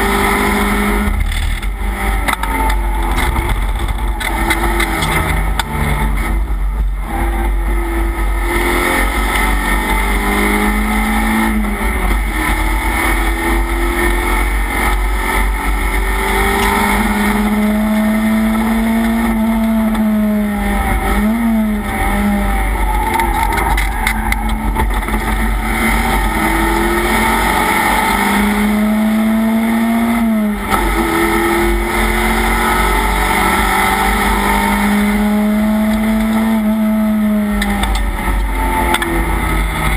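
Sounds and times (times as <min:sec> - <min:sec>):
race car engine revving: 0:00.0 - 0:39.9
wind and road noise: 0:00.0 - 0:39.9.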